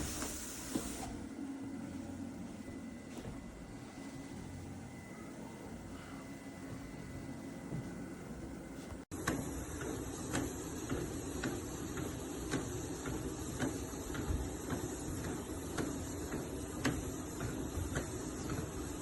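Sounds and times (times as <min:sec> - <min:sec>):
footsteps on treadmill belt: 0:00.0 - 0:01.2, 0:02.4 - 0:04.6, 0:06.6 - 0:19.0
treadmill motor and belt hum: 0:00.0 - 0:19.0.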